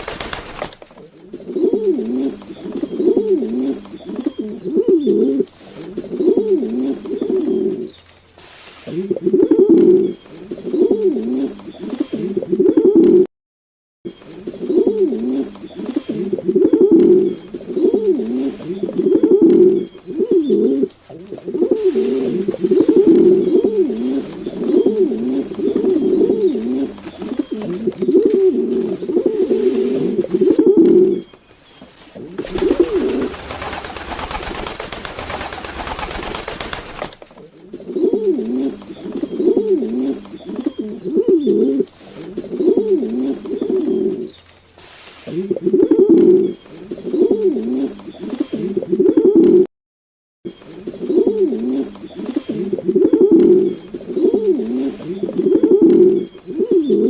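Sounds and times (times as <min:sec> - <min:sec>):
pigeons cooing: 0:00.0 - 0:08.0, 0:08.9 - 0:13.3, 0:14.2 - 0:31.4, 0:32.2 - 0:44.4, 0:45.2 - 0:49.7, 0:50.6 - 0:57.0.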